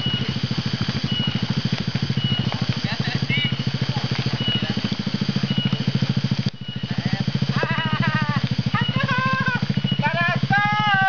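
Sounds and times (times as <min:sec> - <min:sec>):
motorcycle engine running: 0:00.0 - 0:11.0
voices calling out: 0:00.0 - 0:11.0.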